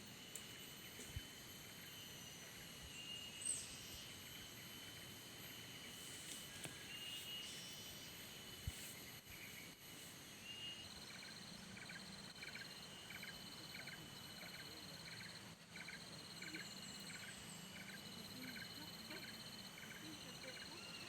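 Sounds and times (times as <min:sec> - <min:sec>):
cricket-like pulsing trill: 0:00.0 - 0:21.0
steady high insect buzz: 0:00.0 - 0:21.0.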